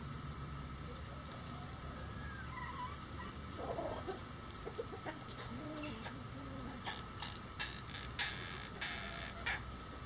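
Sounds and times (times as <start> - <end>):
hen clucking softly: 0.9 - 9.7.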